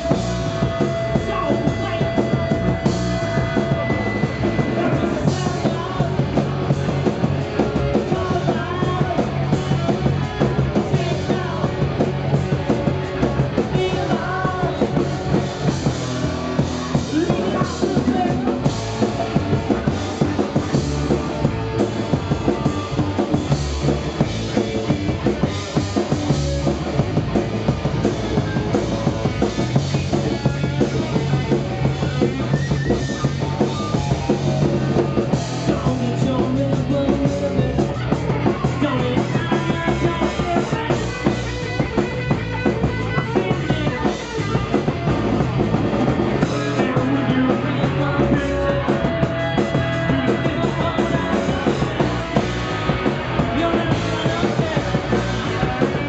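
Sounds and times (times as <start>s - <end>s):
punk rock band playing live: 0.0s - 56.0s
person singing: 0.8s - 24.0s, 28.9s - 45.4s, 46.2s - 56.0s.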